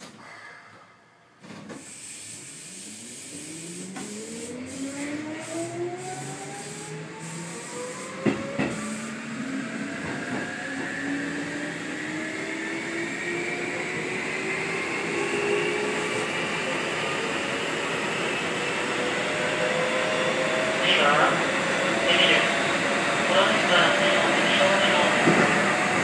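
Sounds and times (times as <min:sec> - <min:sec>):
electric train motors whining: 0:02.5 - 0:26.0.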